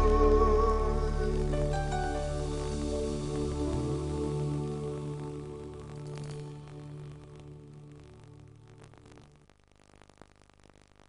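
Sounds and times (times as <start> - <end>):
slow ambient music with held notes: 0.0 - 9.3.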